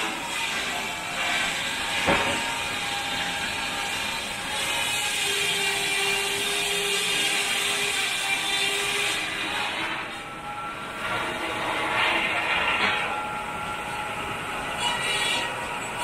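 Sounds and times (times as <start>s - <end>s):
sawmill machinery clattering: 0.0s - 16.0s.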